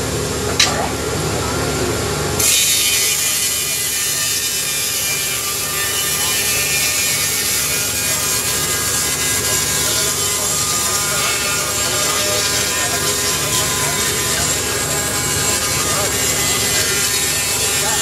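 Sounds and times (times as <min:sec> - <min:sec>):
electric motor hum: 0:00.0 - 0:18.0
saw blade cutting log: 0:02.4 - 0:18.0.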